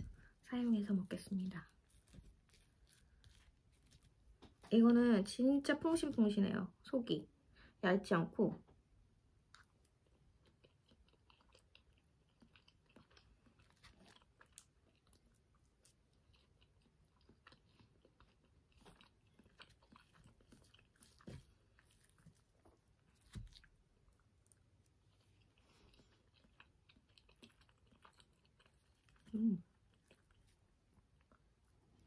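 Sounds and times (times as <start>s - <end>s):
chewing soft food: 1.3s - 4.7s, 9.2s - 32.0s.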